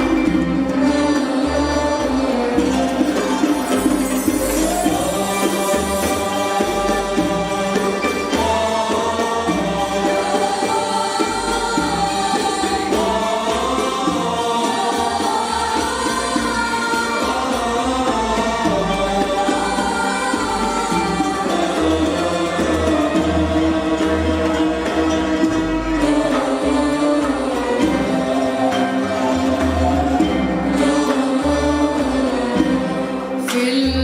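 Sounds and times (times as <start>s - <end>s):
choir singing in unison: 0.0s - 34.0s
instrumental accompaniment: 0.0s - 34.0s.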